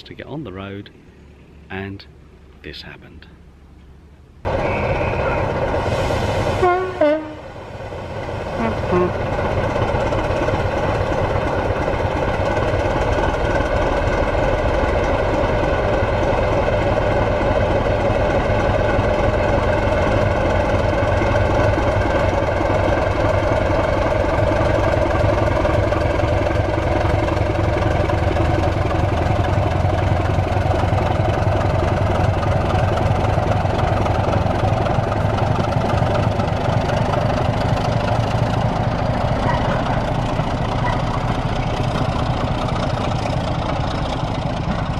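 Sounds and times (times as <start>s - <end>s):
large diesel engine idling: 6.7s - 44.9s.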